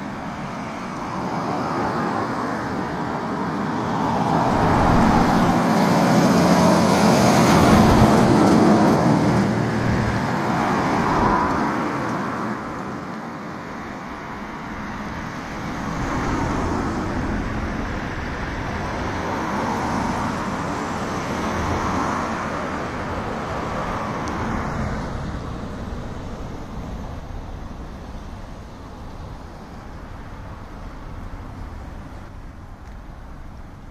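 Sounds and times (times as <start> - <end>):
passing cars rushing: 0.0 - 33.9.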